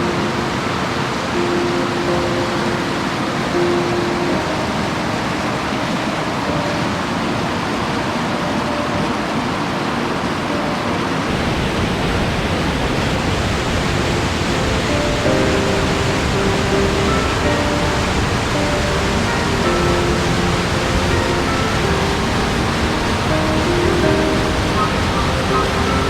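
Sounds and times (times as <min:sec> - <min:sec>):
rushing water roar: 0:00.0 - 0:26.0.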